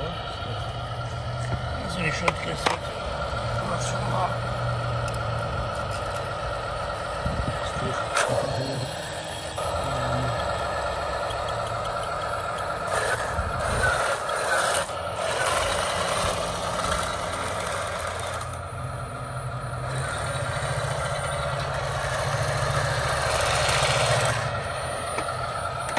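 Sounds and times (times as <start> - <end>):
electric motor whine: 0.0 - 25.9.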